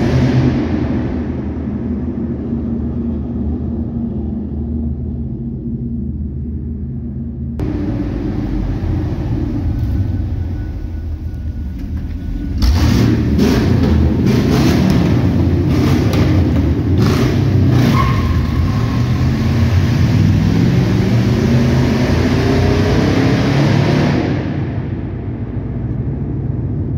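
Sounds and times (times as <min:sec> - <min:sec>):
engine exhaust rumbling in tunnel: 0:00.0 - 0:26.9.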